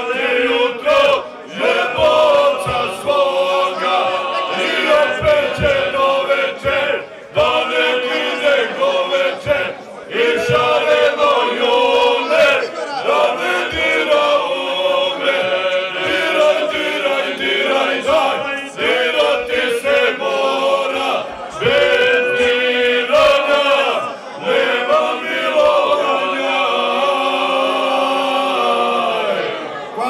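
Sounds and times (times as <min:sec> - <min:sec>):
men singing folk song together: 0:00.0 - 0:29.0.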